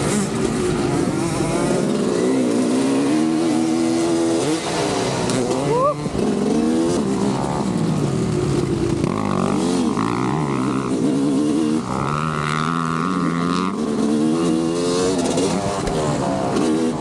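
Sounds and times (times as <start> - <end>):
motocross bike engine revving: 0.0 - 17.0.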